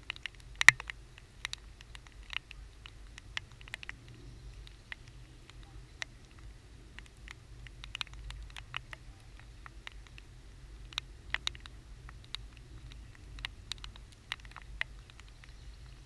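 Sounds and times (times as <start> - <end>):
low steady rumble: 0.0 - 16.0
raindrops ticking on camera: 0.0 - 16.0.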